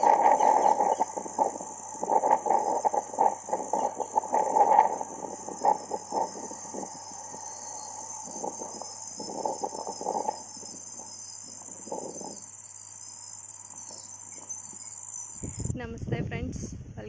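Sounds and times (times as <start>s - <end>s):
insect chorus: 0.0s - 15.9s.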